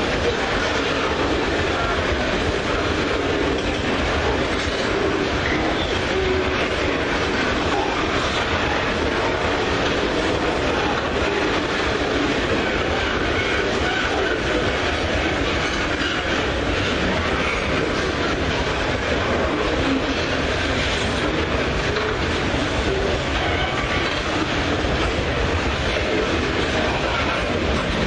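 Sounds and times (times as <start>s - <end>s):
train wagons rolling on rails: 0.0s - 28.0s.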